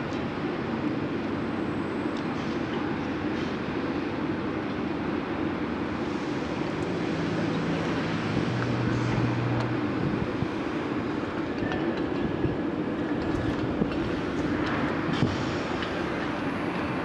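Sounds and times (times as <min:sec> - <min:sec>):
crane machinery rumble: 0:00.0 - 0:17.0.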